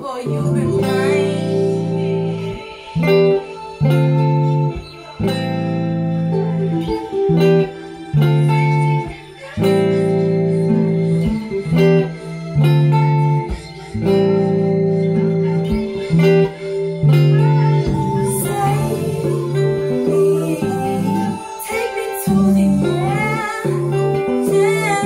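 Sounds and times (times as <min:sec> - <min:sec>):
acoustic guitar chords: 0:00.0 - 0:25.0
electric guitar chords: 0:00.0 - 0:25.0.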